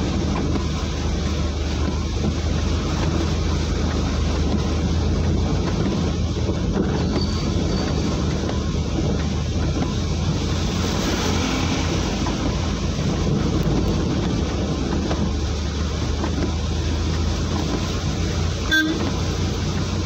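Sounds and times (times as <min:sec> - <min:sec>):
vehicle engine humming: 0:00.0 - 0:20.0
water churned by wheels: 0:00.0 - 0:20.0
wind on microphone: 0:00.0 - 0:20.0.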